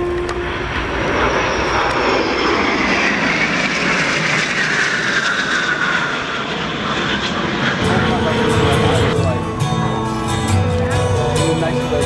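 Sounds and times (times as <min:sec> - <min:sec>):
jet aircraft roaring past: 0:00.0 - 0:12.0.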